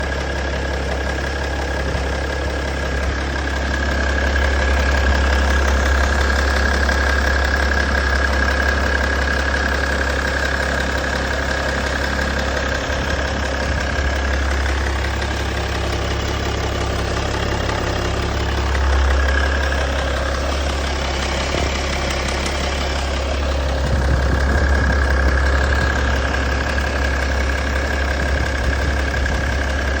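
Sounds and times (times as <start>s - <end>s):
diesel engine clattering: 0.0s - 30.0s.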